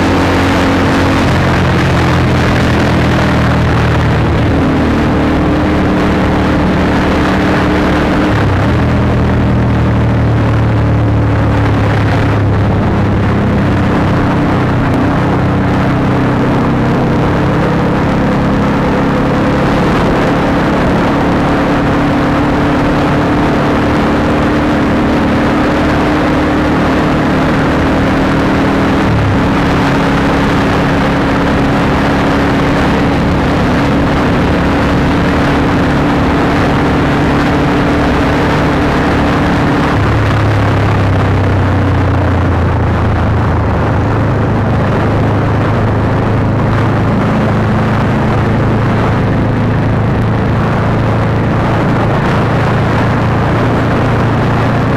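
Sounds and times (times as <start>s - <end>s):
motorcycle engine running: 0.0s - 54.9s
rushing noise: 0.0s - 54.9s.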